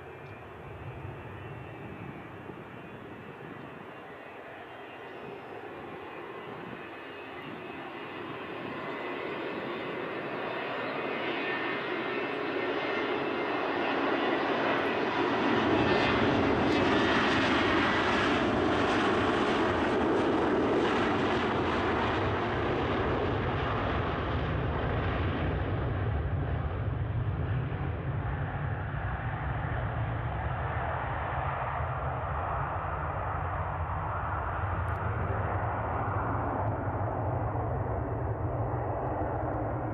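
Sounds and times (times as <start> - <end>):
jet engines roaring at takeoff: 0.0 - 39.9.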